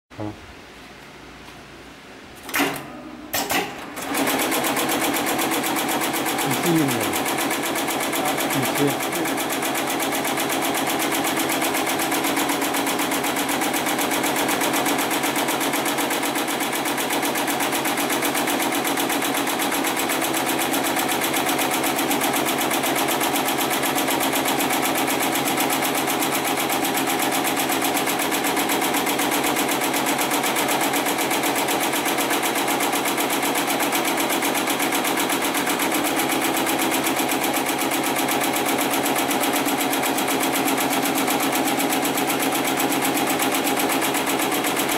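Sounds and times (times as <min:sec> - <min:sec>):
sewing machine stitching: 0:03.4 - 0:44.9.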